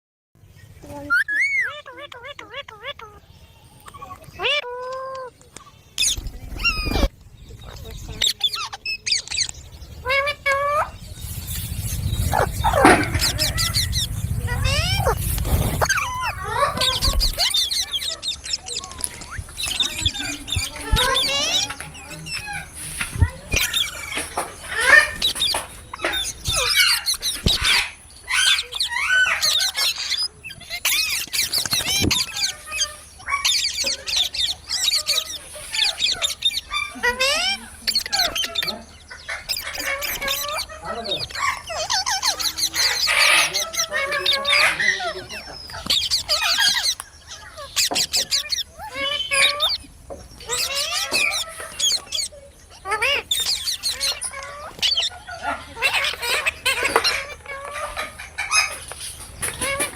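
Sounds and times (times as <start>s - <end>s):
parrots chirping and squawking: 0.4s - 59.9s.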